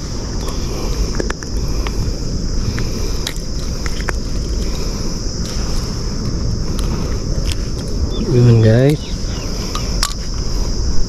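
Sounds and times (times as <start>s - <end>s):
high insect drone: 0.0s - 11.0s
wind on microphone: 0.0s - 11.0s.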